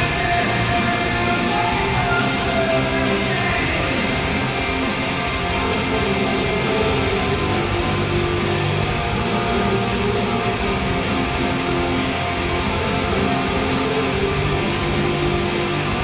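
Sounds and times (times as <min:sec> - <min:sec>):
hard rock with electric guitar: 0:00.0 - 0:16.0.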